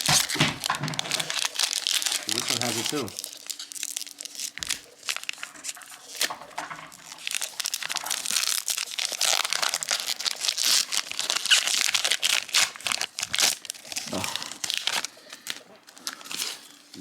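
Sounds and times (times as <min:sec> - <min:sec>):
foil wrapper crinkling: 0:00.0 - 0:17.0.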